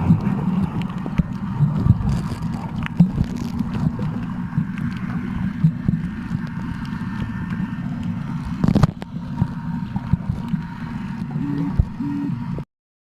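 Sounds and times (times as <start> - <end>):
faint steady whine: 0.0 - 12.6
motor rumbling: 0.0 - 12.6.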